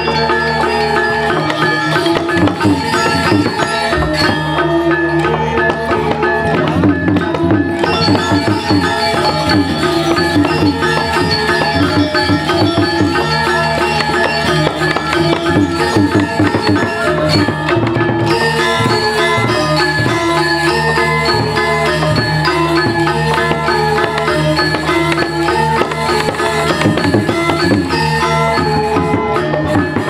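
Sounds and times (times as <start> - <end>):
gamelan metallophones ringing: 0.0 - 30.0
hand drum strokes: 0.0 - 30.0.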